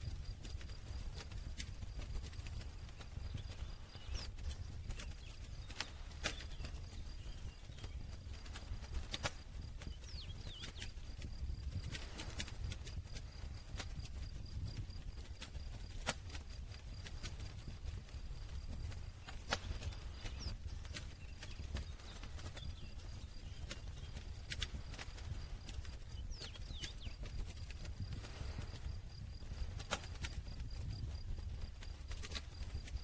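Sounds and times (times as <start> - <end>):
campfire crackling and popping: 0.0 - 33.0
low rumble of flames: 0.0 - 33.0.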